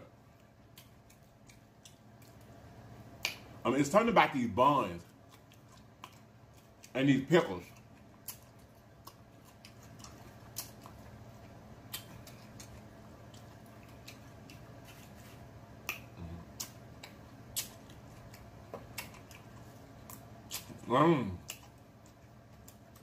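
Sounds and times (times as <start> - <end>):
faint steady hum: 0.0 - 23.0
person chewing food: 0.1 - 3.6, 4.7 - 23.0.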